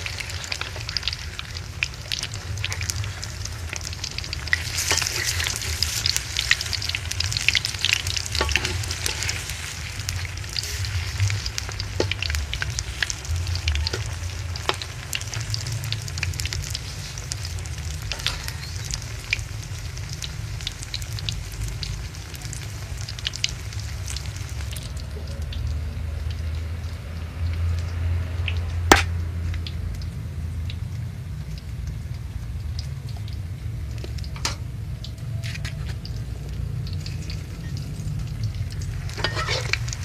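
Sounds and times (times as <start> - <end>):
food deep-frying in oil: 0.0 - 40.0.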